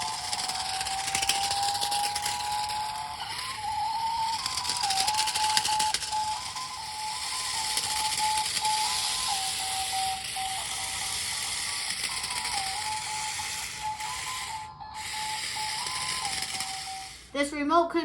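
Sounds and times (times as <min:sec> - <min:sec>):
mechanical rattle and hiss: 0:00.0 - 0:17.4.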